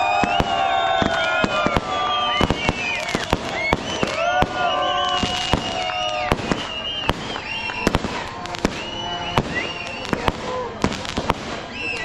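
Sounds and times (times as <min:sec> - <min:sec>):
fireworks bangs and crackles: 0:00.0 - 0:12.0
fireworks whistling: 0:00.0 - 0:12.0.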